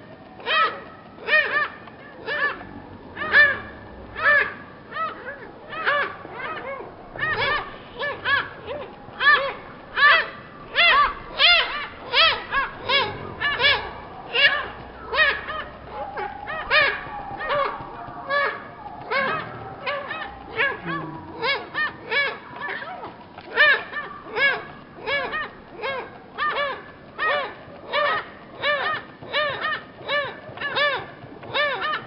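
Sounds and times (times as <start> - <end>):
woodpecker nestlings begging calls: 0.3 - 32.0.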